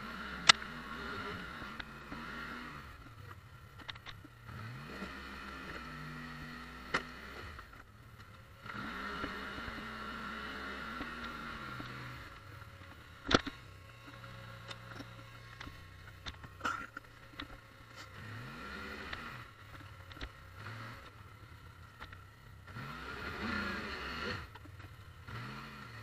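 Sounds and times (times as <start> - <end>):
atv engine running under load: 0.0 - 26.0.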